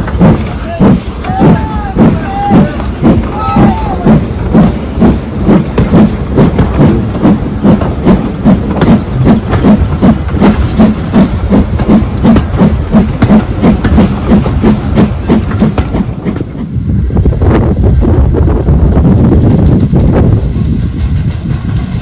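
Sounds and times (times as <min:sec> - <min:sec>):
steady rushing noise: 0:00.0 - 0:22.0
steam locomotive exhaust beats: 0:00.0 - 0:22.0.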